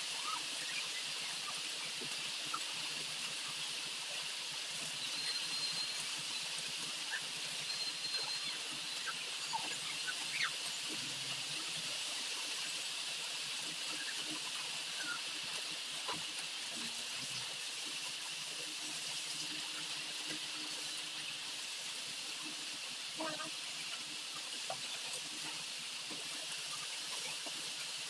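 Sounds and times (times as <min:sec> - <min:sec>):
broth boiling hiss: 0:00.0 - 0:28.0.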